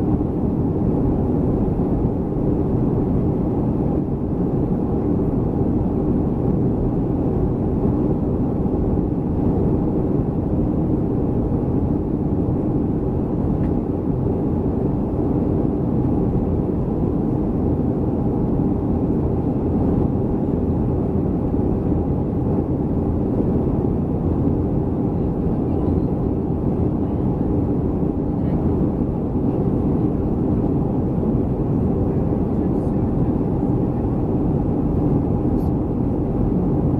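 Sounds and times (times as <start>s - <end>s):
airliner cabin engine and airflow noise: 0.0s - 36.9s.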